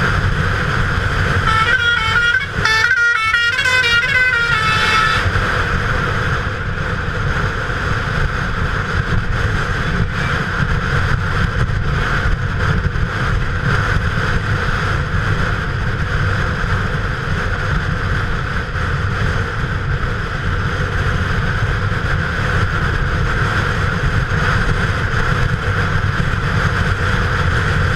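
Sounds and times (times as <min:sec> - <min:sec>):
motorcycle engine running: 0:00.0 - 0:27.9
wind rushing on microphone: 0:00.0 - 0:27.9.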